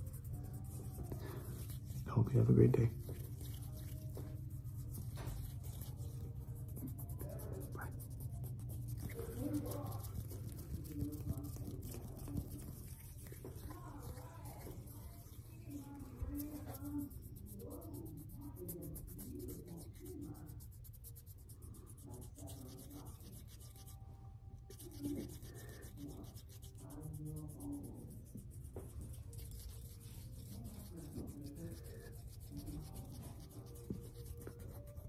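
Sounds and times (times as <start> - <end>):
hands rubbing together: 0.0 - 24.0, 24.7 - 35.0.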